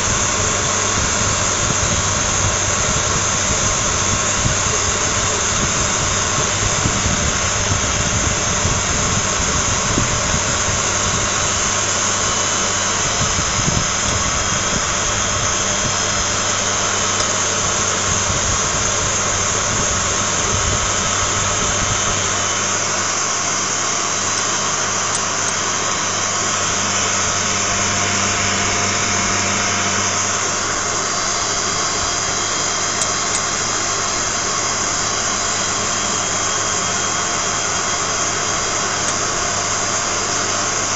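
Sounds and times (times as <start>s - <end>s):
electric grinding mill whirring: 0.0s - 40.9s.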